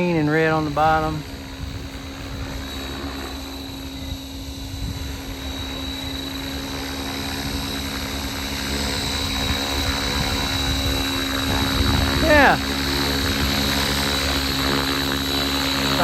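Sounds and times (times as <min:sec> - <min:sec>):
high motor whine: 0:00.0 - 0:16.0
model helicopter rotor hum: 0:00.0 - 0:16.0.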